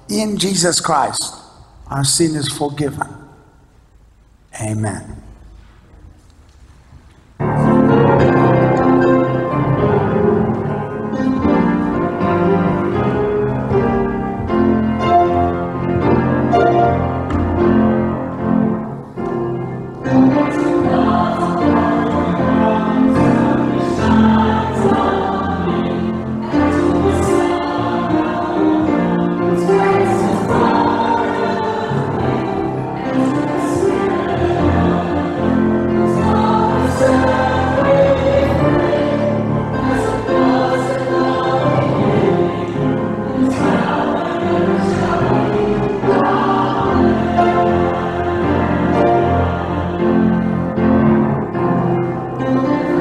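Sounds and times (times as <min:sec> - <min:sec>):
church choir singing: 0:07.4 - 0:53.0.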